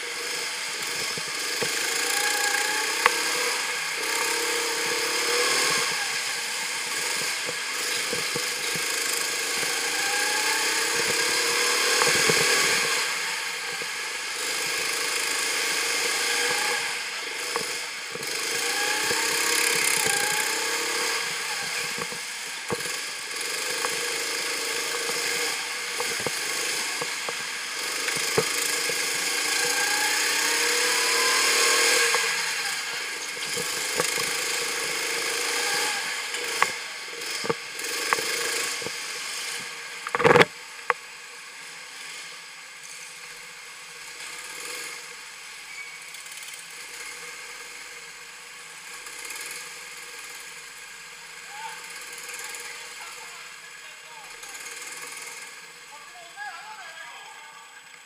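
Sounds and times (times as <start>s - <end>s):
go-kart engine accelerating: 0.0s - 56.2s.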